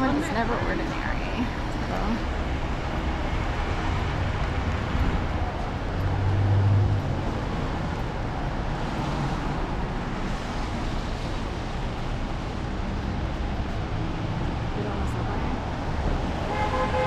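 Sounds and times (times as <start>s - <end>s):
city street traffic: 0.0s - 17.0s
vehicle engine hum passing: 0.0s - 17.0s.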